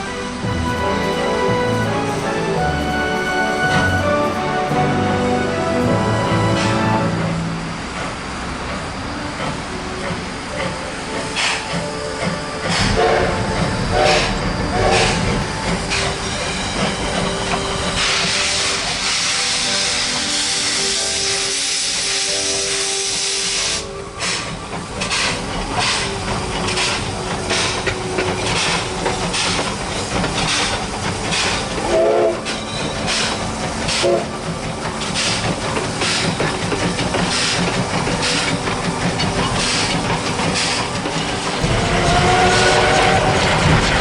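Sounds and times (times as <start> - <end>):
train whistle blast: 0.0 - 8.1, 9.1 - 44.0
steady steam hiss: 0.0 - 44.0
steam locomotive exhaust chuffs: 0.0 - 44.0.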